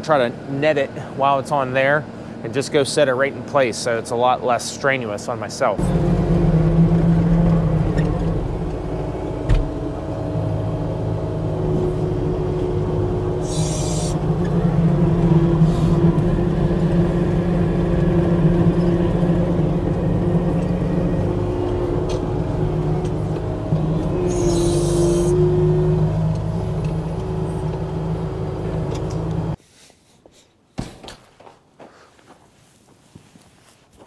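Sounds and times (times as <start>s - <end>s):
diesel engine running: 0.0s - 29.6s.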